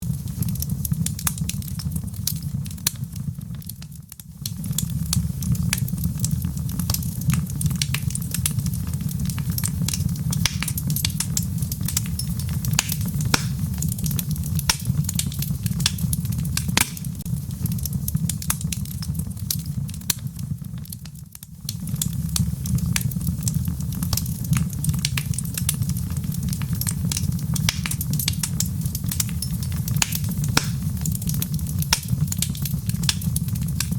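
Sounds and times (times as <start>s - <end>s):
low rumble of flames: 0.0s - 33.9s
wood fire crackling and popping: 0.0s - 33.9s.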